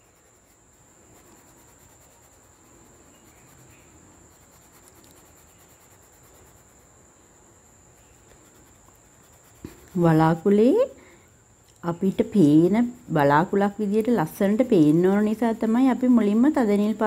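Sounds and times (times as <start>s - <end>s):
oil pastel scratching on paper: 0.0s - 10.9s, 11.9s - 17.0s.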